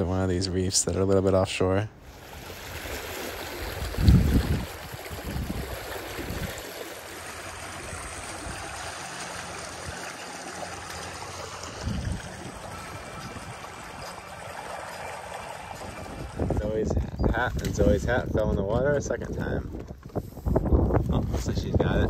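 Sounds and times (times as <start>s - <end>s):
water rushing past hull: 2.0s - 20.8s
wind buffeting microphone: 2.2s - 22.0s.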